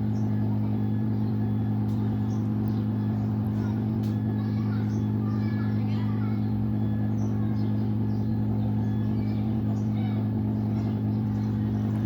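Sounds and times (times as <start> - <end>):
equipment humming: 0.0 - 12.0
faint voices: 0.2 - 12.0.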